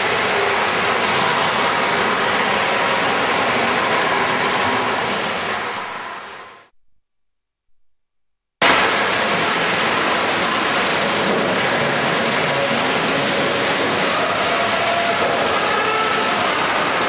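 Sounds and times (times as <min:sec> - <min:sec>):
dredge machinery and water roaring: 0:00.0 - 0:06.4, 0:08.6 - 0:17.0.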